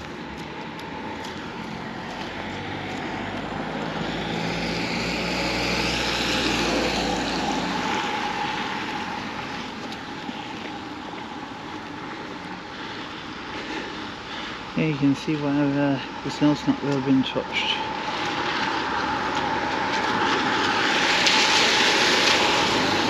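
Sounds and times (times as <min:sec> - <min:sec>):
road noise: 0:00.0 - 0:23.0
vehicle engine hum: 0:00.0 - 0:23.0.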